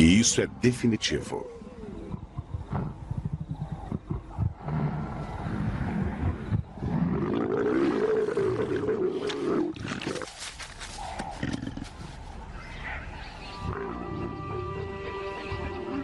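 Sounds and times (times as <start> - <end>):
leopards snarling and growling: 1.1 - 14.9.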